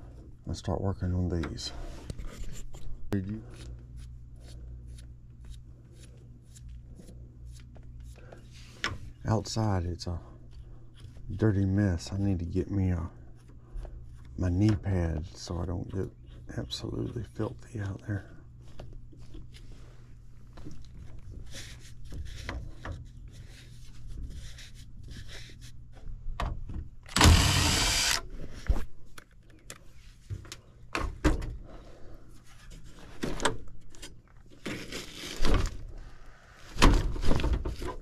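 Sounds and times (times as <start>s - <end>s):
steady low hum: 0.0s - 34.6s.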